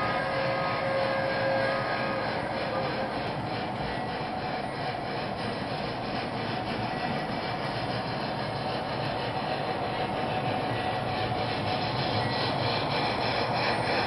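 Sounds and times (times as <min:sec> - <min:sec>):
model train rolling rumble: 0:00.0 - 0:14.0.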